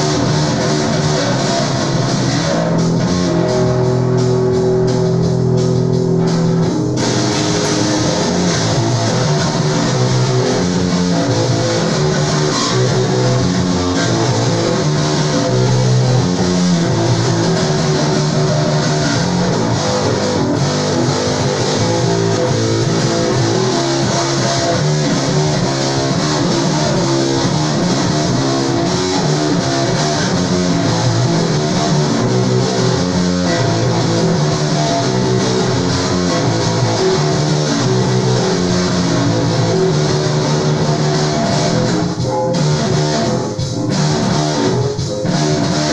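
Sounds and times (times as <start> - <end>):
bass guitar plucked notes: 0.0 - 45.9.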